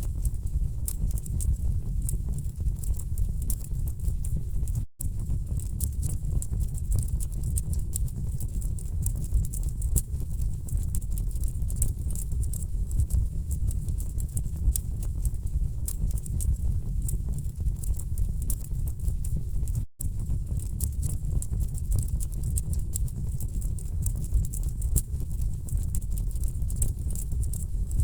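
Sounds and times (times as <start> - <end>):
low rumble of burning logs: 0.0 - 28.0.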